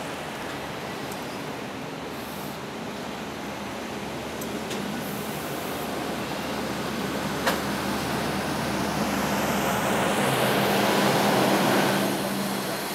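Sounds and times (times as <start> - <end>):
diesel locomotive engine humming: 0.0 - 12.9.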